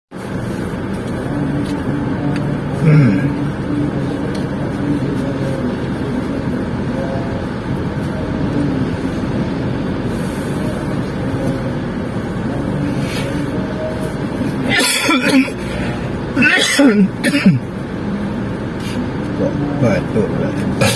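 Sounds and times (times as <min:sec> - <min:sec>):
vehicle rumble inside car: 0:00.1 - 0:20.9.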